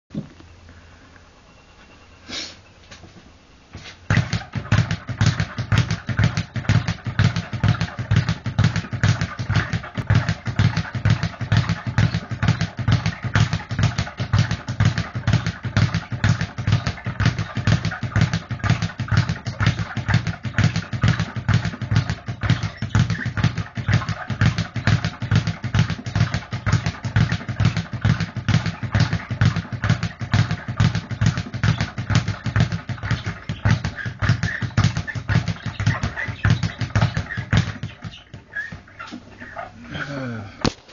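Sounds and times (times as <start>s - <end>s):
speed bag punching rhythm: 4.1s - 39.0s.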